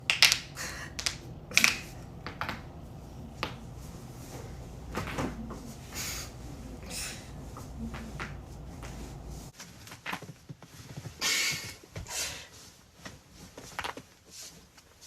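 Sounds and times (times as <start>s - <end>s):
soft rustling: 2.7s - 15.0s.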